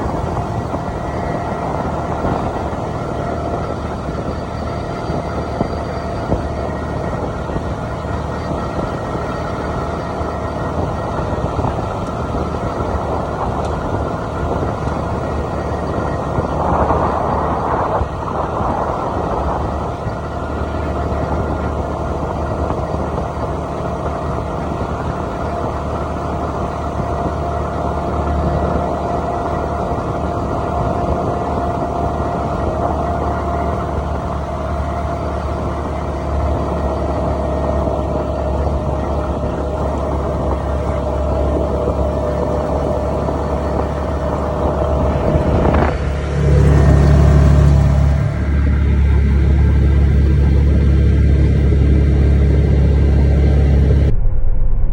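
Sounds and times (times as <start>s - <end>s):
car engine rumbling: 0.0s - 54.9s.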